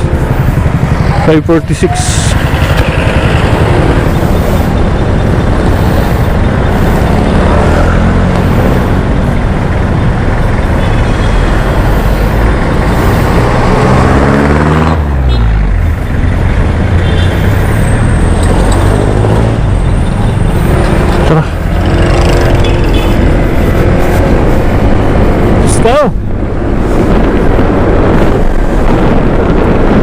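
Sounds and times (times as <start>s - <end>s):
scooter engine: 0.0s - 25.6s
wind rush over microphone: 0.0s - 30.0s.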